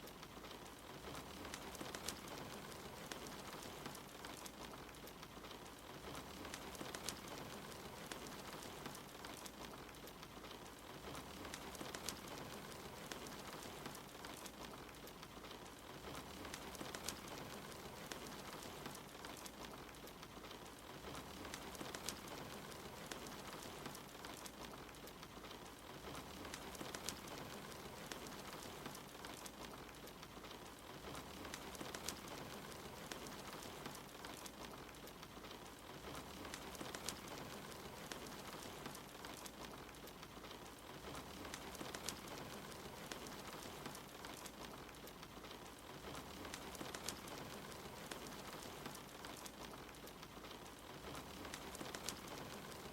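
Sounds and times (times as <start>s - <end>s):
fireplace crackling and popping: 0.0s - 52.9s
steady rain falling: 0.0s - 52.9s.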